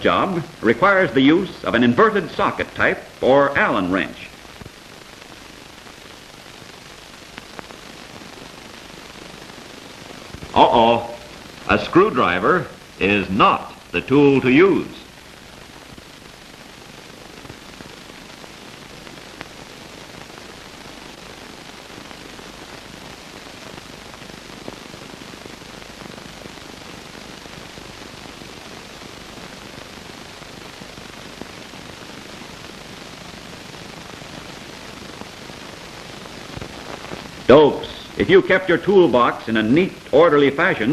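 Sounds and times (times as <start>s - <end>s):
old film soundtrack hiss: 0.0s - 40.9s.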